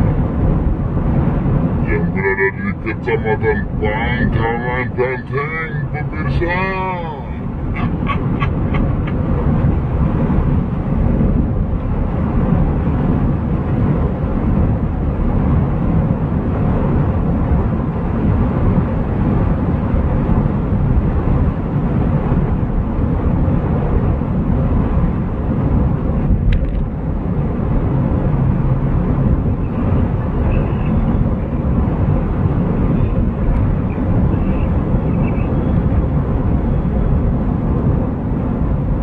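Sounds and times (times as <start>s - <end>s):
car driving rumble inside cabin: 0.0s - 39.0s.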